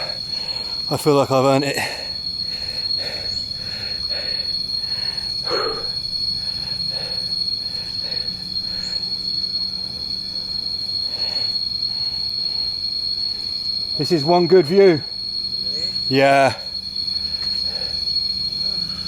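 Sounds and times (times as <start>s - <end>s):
insects high-pitched ringing: 0.0s - 19.0s.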